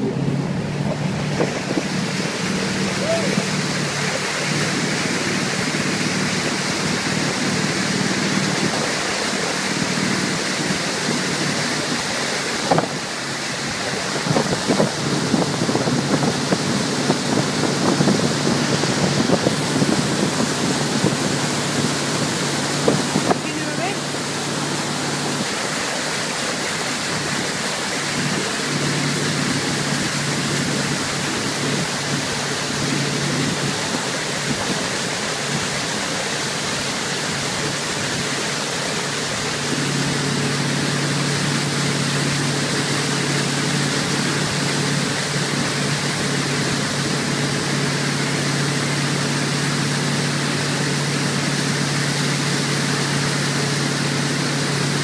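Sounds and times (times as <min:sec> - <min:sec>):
motorboat engine hum: 0:00.0 - 0:55.0
rush of water and wind: 0:00.0 - 0:55.0.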